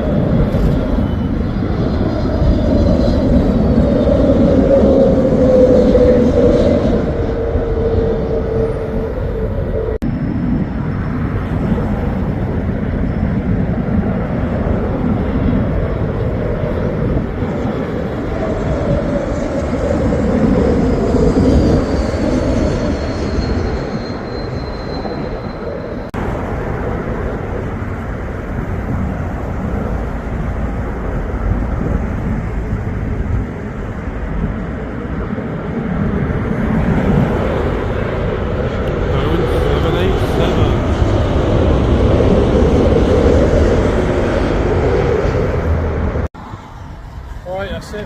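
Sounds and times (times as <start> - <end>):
jet engines rumbling overhead: 0.0 - 48.0.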